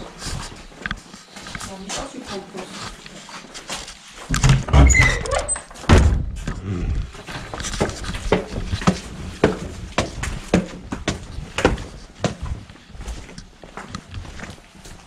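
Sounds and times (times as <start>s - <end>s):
footsteps on brick steps: 0.0s - 4.4s, 6.3s - 15.0s.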